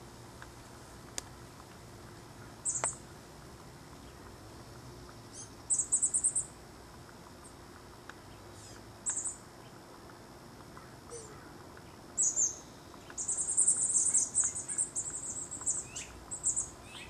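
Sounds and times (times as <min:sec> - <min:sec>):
small songbirds chirping: 0:00.4 - 0:17.0.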